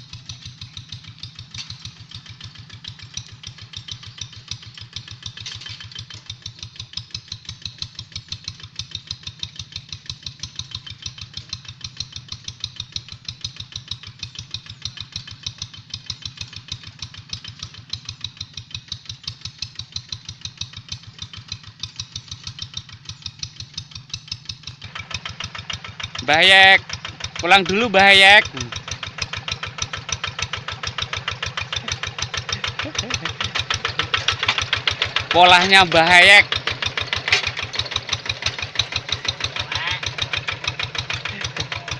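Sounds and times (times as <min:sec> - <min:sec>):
diesel engine putting steadily: 0:00.0 - 0:41.9.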